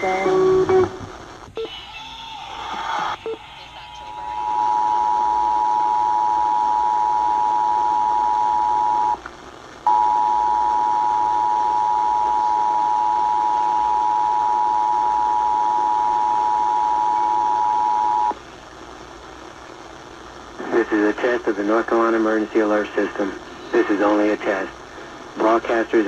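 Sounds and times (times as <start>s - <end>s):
radio hiss: 0.0s - 26.0s.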